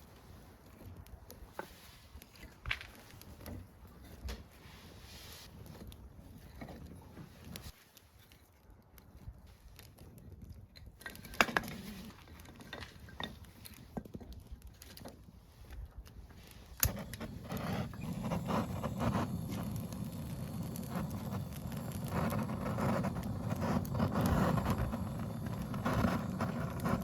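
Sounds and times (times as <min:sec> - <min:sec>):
firewood crackling and popping: 0:00.0 - 0:27.0.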